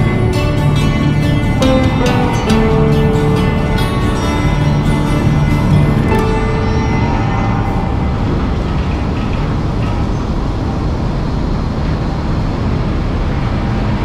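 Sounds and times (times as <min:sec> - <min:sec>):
boat engine and deck machinery rumble: 0:00.0 - 0:14.0.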